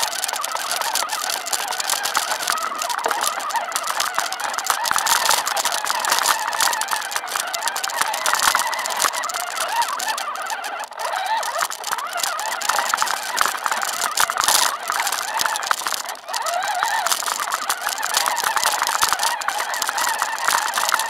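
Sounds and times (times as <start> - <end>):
chassis rattling and clicking: 0.0 - 21.0
toy truck motor whine: 0.0 - 21.0.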